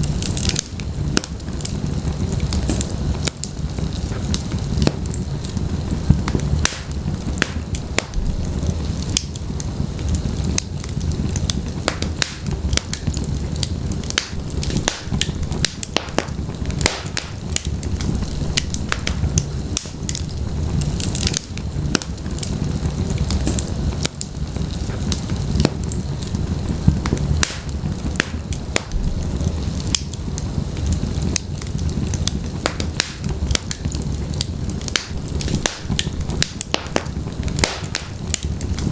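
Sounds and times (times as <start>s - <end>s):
low rumble of flame: 0.0s - 38.9s
wood crackling and popping: 0.0s - 38.9s.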